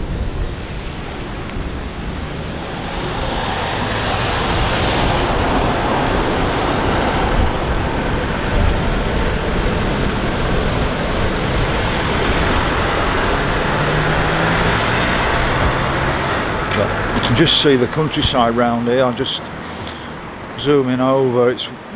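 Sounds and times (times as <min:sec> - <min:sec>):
cars driving past: 0:00.0 - 0:21.9.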